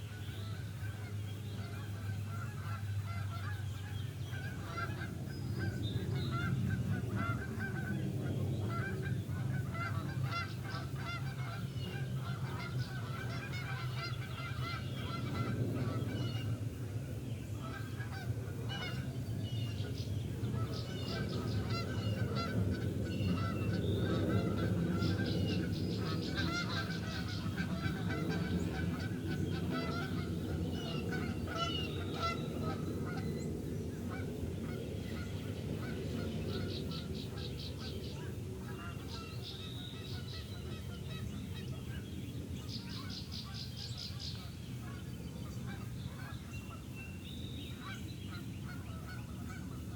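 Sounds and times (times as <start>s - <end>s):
geese honking: 0.0s - 16.6s, 17.6s - 42.0s, 42.6s - 46.8s, 47.8s - 49.9s.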